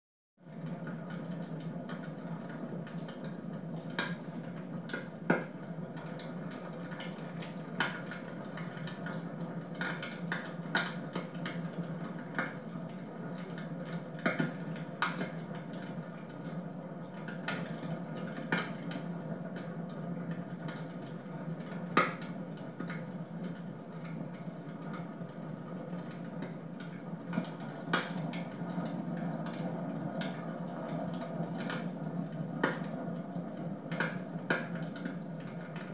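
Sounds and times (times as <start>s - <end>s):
wood fire crackling and popping: 0.6s - 35.9s.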